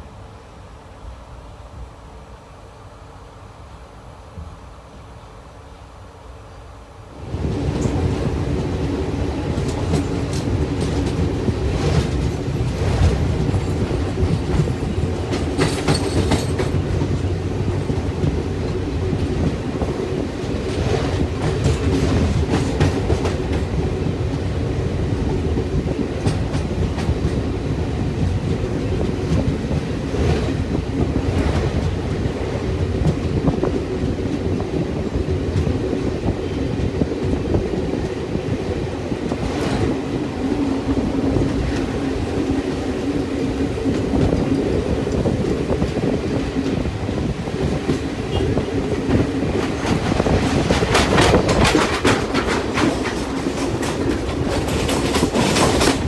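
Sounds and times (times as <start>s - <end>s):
train wheels rumbling on rails: 7.1s - 56.0s
clacks over rail joints: 7.6s - 38.2s, 39.3s - 56.0s.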